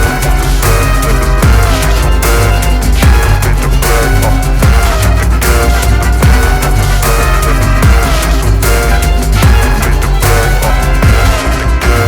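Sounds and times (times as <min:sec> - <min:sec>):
deep kick drums dropping in pitch: 0:00.0 - 0:12.0
instrumental rap beat: 0:00.0 - 0:12.0.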